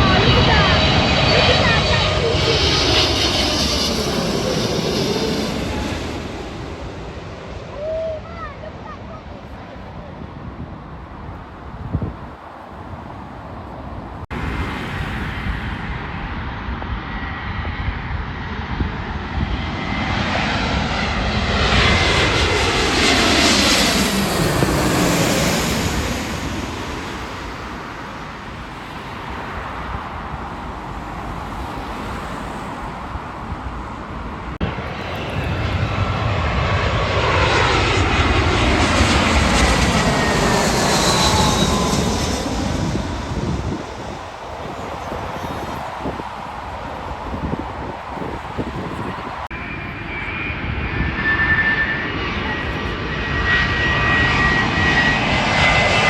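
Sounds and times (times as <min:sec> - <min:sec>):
jet airliner roaring overhead: 0:00.0 - 0:56.0.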